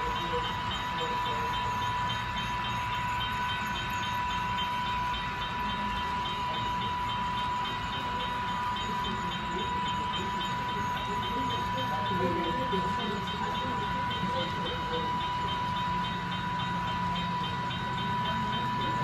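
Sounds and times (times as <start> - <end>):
model train rumbling on track: 0.0 - 19.0
steady high-pitched tone: 0.0 - 19.0.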